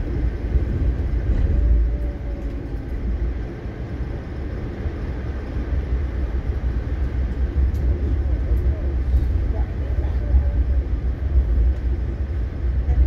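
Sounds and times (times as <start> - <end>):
train rumbling from inside coach: 0.0 - 13.0.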